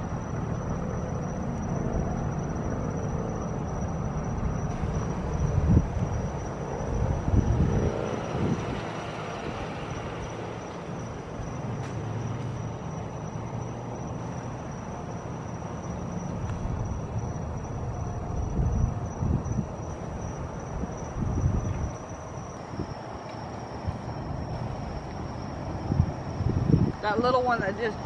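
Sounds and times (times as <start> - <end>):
helicopter rotors overhead: 0.0 - 28.0.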